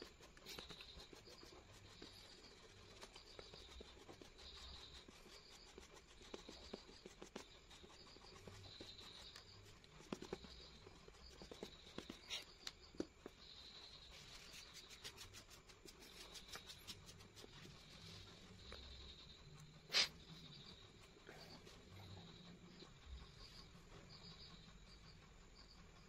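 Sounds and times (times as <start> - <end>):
pen scratching on paper: 0.0 - 24.6.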